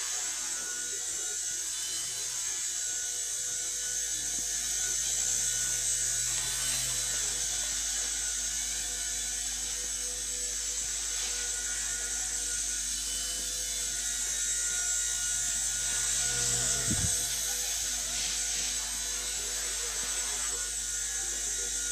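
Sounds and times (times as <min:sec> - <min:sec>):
toy helicopter rotor whine: 0:00.0 - 0:21.9.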